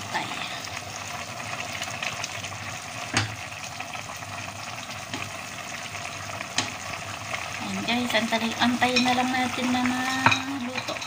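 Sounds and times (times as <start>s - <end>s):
broth bubbling and sizzling: 0.0s - 11.0s.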